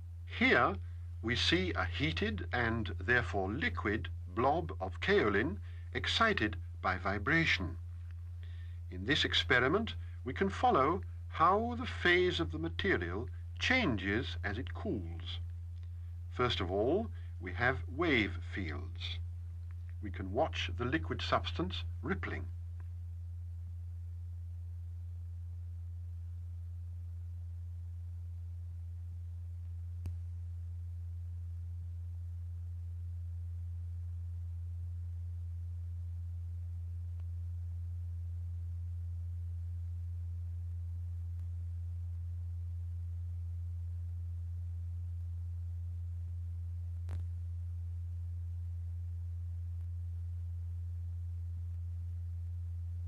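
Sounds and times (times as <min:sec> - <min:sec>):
low sine tone: 0:00.0 - 0:53.0.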